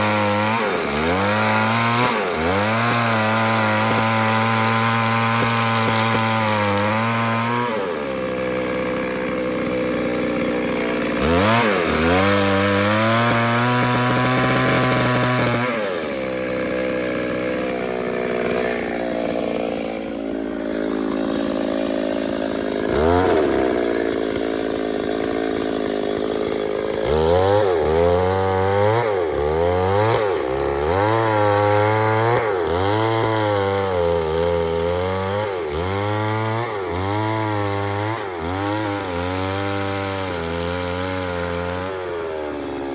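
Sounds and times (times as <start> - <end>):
chainsaw cutting through log: 0.0 - 42.9.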